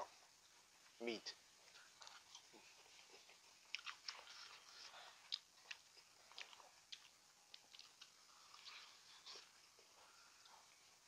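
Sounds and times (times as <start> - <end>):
quiet crunchy chewing: 0.0 - 11.0.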